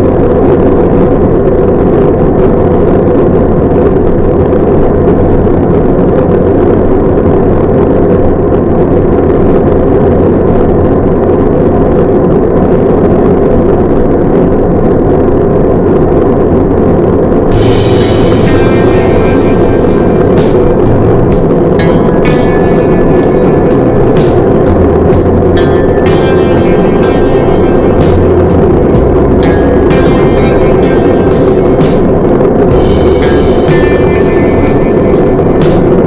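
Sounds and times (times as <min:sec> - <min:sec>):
road rumble: 0:00.0 - 0:36.0
truck engine drone: 0:00.0 - 0:36.0.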